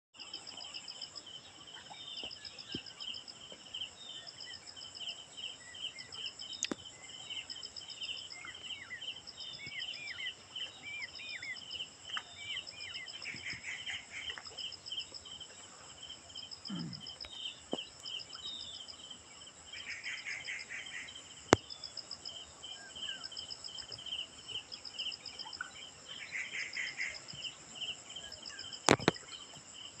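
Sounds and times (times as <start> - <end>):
insects chirping chorus: 0.2 - 30.0.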